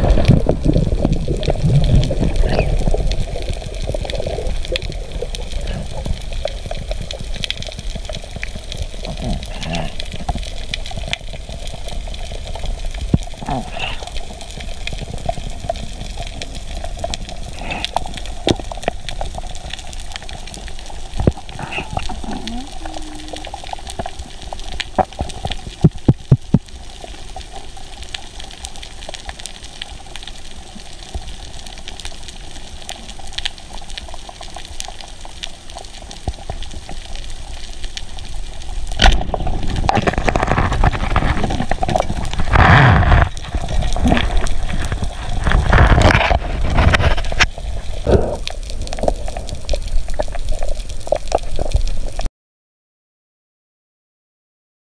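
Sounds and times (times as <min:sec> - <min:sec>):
bubbling and rushing water: 0:00.0 - 0:52.3
underwater water noise: 0:00.0 - 0:52.3.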